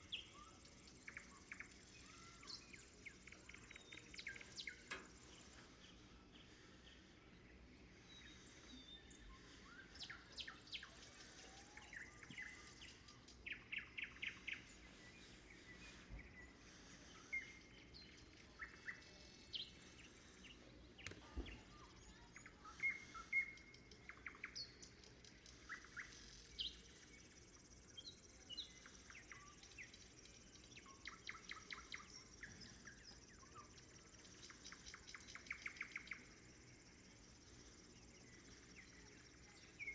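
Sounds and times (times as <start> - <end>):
nightingale song: 0.0 - 39.9.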